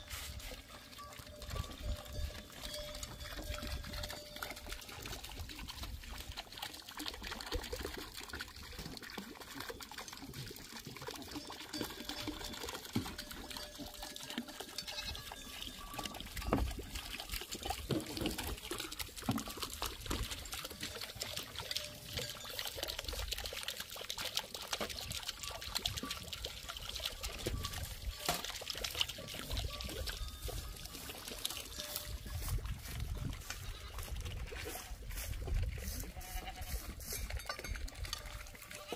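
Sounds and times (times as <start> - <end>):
water pouring and trickling: 0.0 - 38.9.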